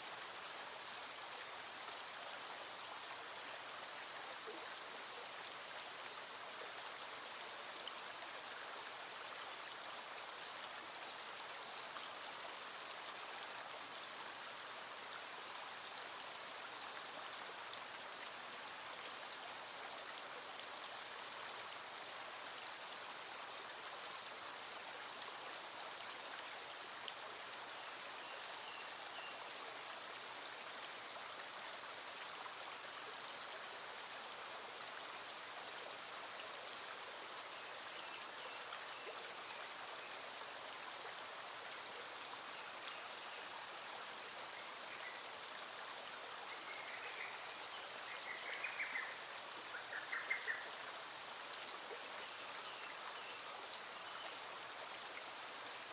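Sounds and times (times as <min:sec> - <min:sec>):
rain falling on water: 0:00.0 - 0:55.9
stream flowing: 0:00.0 - 0:55.9.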